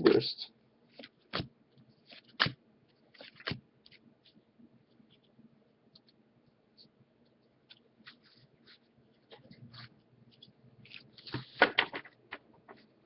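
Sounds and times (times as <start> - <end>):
faint card rustles: 0.9 - 13.0.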